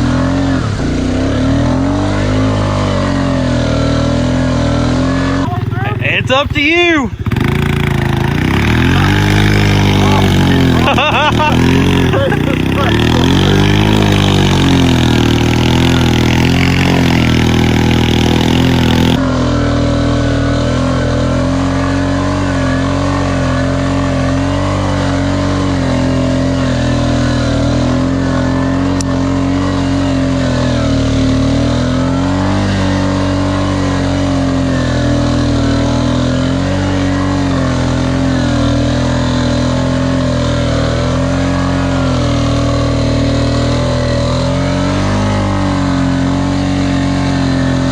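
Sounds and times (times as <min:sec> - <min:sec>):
off-road four-wheeler engine revving: 0:00.0 - 0:47.9.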